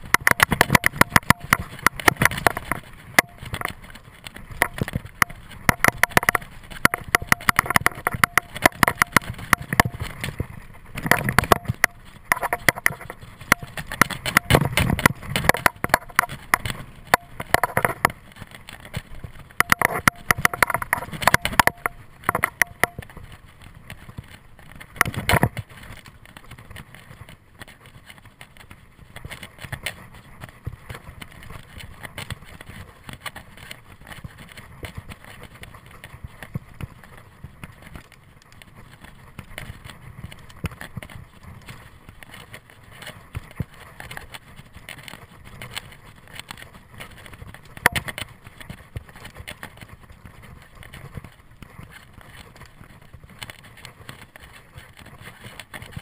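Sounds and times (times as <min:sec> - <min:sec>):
bike rattling and clicking: 0:00.0 - 0:56.0
bike tyres on dirt: 0:00.0 - 0:56.0.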